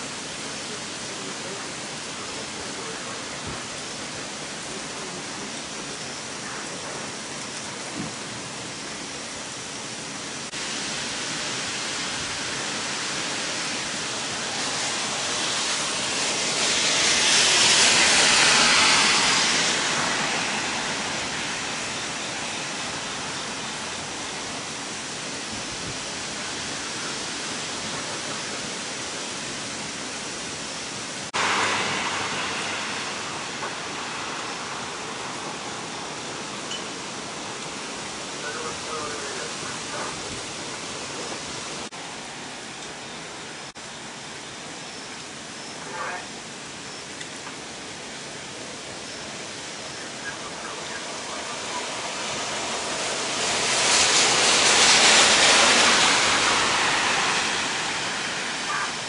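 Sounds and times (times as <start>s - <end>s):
heavy rain and wind: 0.0s - 59.0s.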